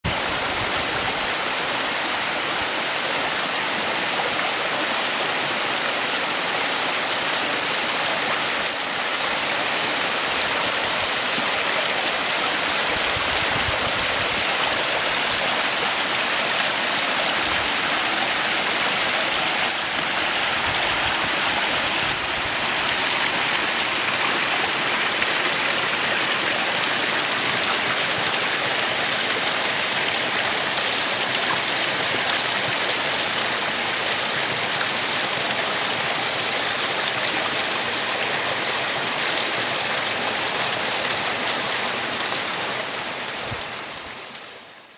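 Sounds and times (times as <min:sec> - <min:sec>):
creek water splashing over rocks: 0:00.1 - 0:44.7.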